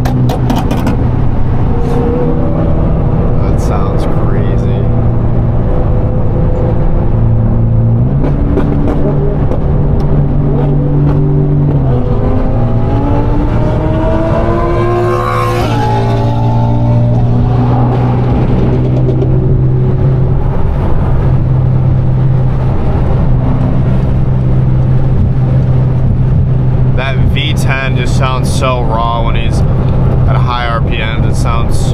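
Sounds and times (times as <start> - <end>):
low car engine drone: 0.0 - 31.9
sports car exhaust revving: 0.0 - 31.9.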